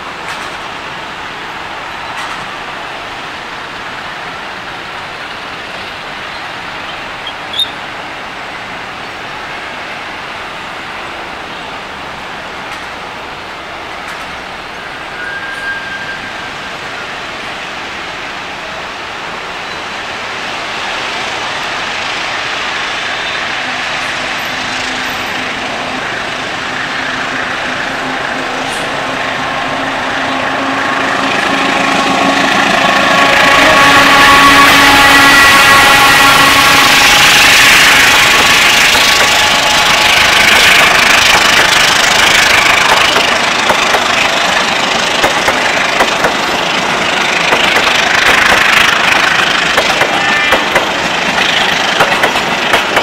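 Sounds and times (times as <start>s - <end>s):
diesel locomotive approaching: 0.0s - 53.0s.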